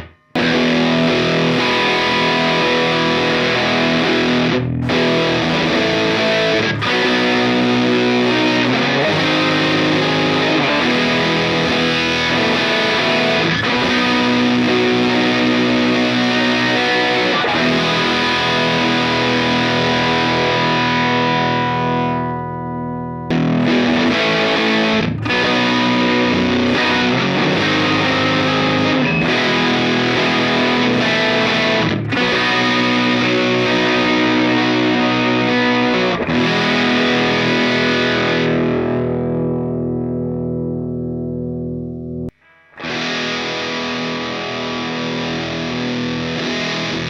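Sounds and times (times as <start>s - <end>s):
distorted electric guitar chords: 0.0s - 47.0s.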